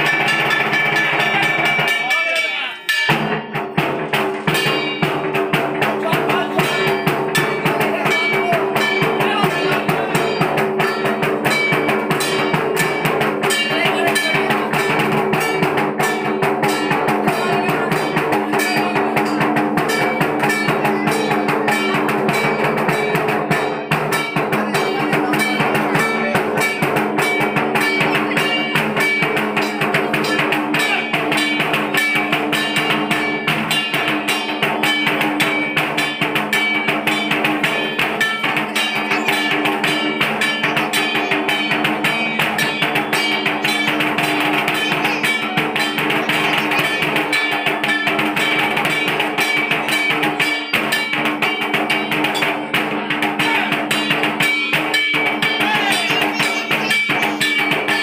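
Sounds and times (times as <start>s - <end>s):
loud music with fast drum beat: 0.0s - 58.0s.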